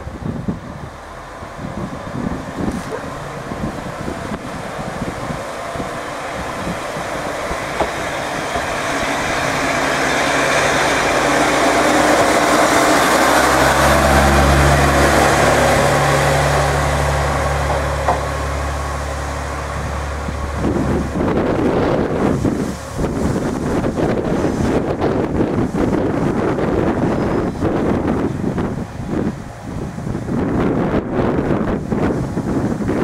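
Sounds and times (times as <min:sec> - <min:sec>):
railcar diesel engine humming: 0:00.0 - 0:33.0.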